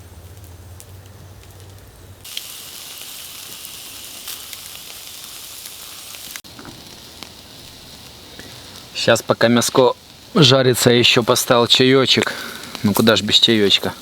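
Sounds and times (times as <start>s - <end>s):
fire crackling: 0.0s - 14.0s
meat sizzling over fire: 0.0s - 14.0s.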